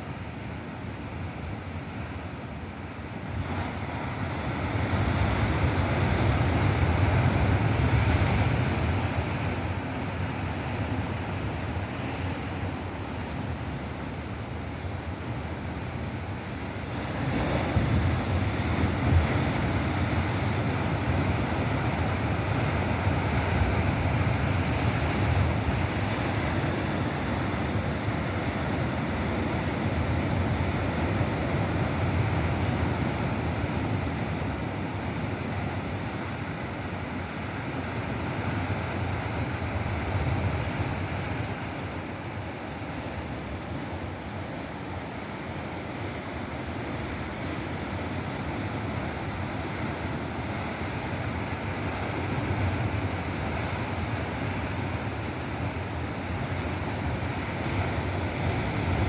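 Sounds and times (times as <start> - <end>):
ocean surf breaking on shore: 0.1 - 59.0.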